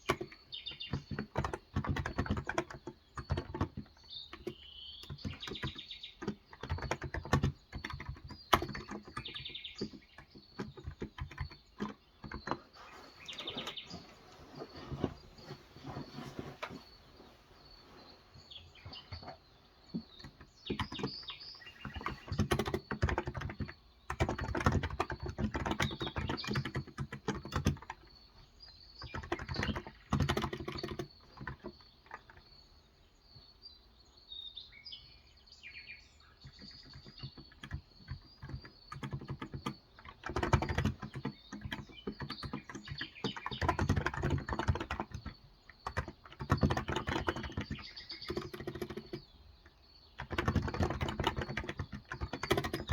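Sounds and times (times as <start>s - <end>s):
fast typing on keyboard: 0.0s - 14.0s, 18.5s - 32.5s, 36.4s - 52.9s
birds chirping: 0.0s - 52.9s.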